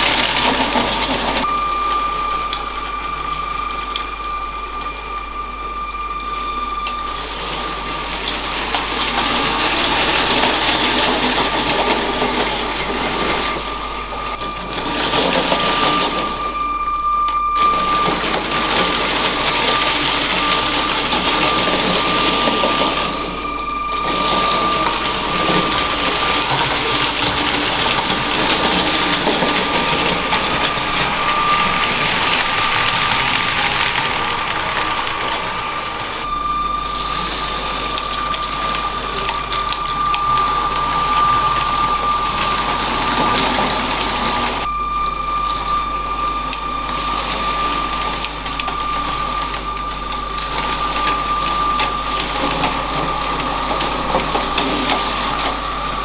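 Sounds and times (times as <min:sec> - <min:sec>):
plastic wheels rattling on track: 0:00.0 - 0:56.0
toy train motor whine: 0:00.0 - 0:56.0.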